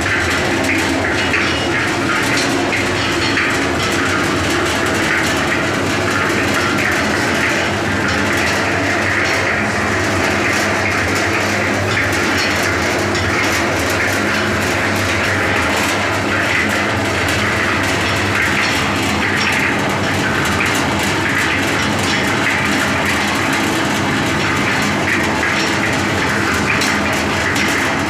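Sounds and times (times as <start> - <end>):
concrete mixer motor hum: 0.0 - 28.0
rattling mixer drum: 0.0 - 28.0.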